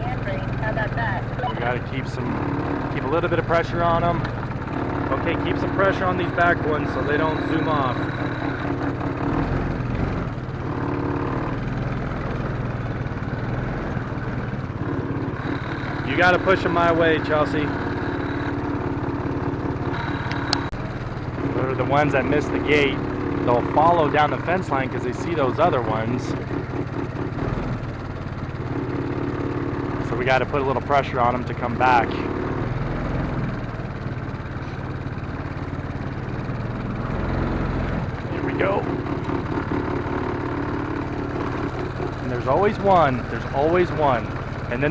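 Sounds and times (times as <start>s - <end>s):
atv engine running: 0.0s - 44.9s.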